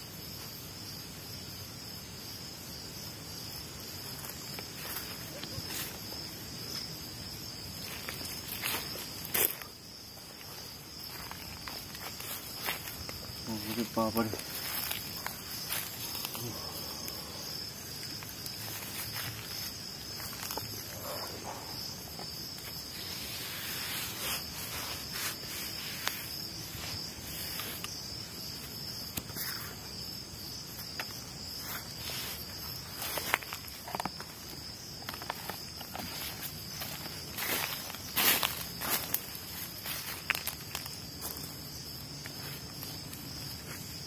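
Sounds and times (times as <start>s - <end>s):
crickets and insects chirring: 0.0s - 44.0s.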